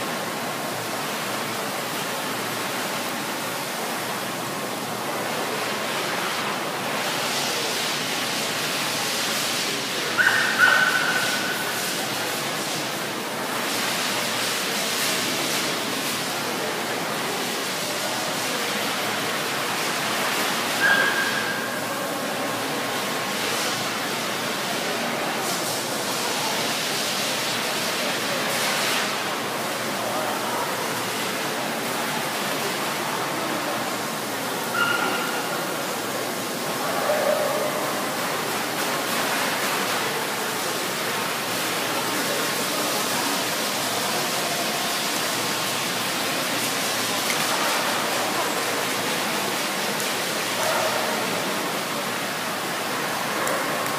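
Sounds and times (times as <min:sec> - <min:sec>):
faint crowd chatter: 0:00.0 - 0:53.9.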